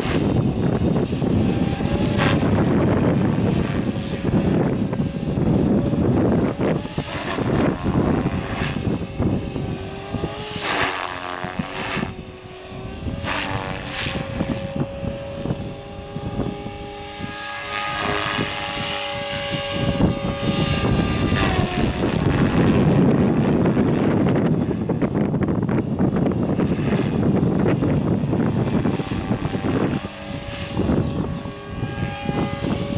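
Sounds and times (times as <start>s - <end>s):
model helicopter rotor whine: 0.0s - 32.9s
wind rumbling on microphone: 0.0s - 32.9s.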